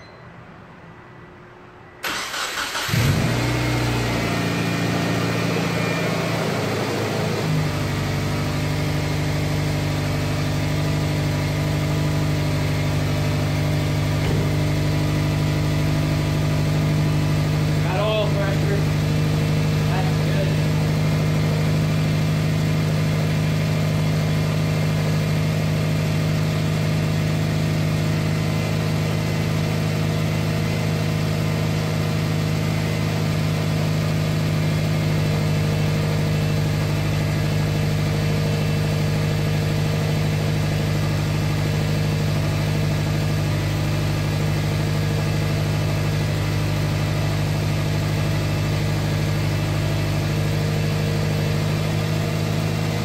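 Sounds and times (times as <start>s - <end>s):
car engine idling: 2.0s - 53.0s.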